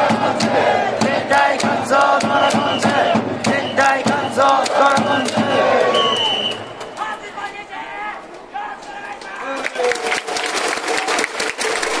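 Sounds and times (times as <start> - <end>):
crowd clapping: 0.0 - 7.1, 8.8 - 12.0.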